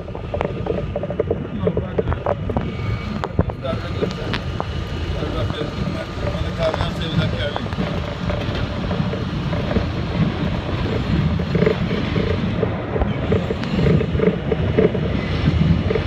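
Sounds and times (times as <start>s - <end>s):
track clacks: 0.0s - 16.0s
subway train wheels rumbling: 1.9s - 16.0s.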